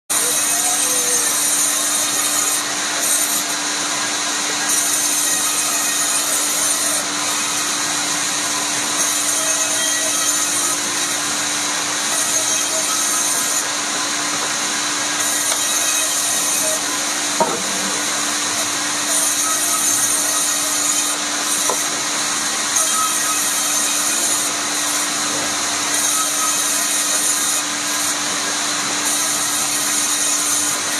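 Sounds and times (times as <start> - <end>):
woodworking machine cutting wood: 0.1 - 30.9.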